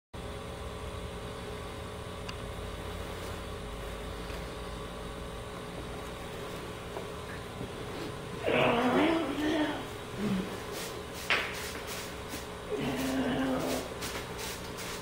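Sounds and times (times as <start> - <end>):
mechanical hum: 0.2 - 15.0.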